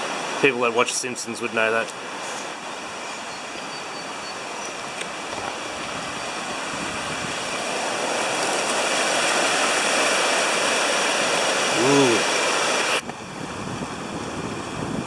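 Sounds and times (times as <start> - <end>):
river water rushing over rapids: 0.0 - 15.0.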